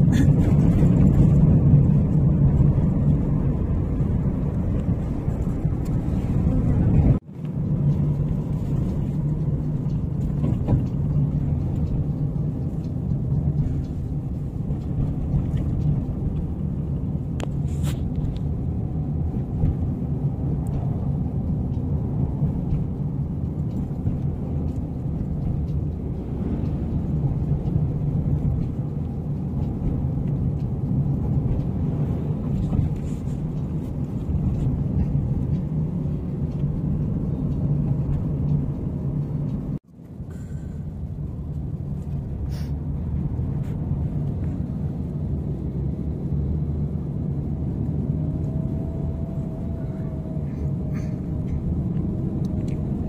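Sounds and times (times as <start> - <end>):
car engine rumble: 0.0 - 53.0
road noise: 0.0 - 53.0.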